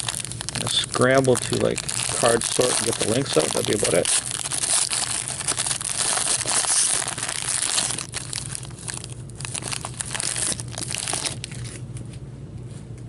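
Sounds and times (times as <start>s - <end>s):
plastic wrapping crinkling: 0.0s - 11.9s.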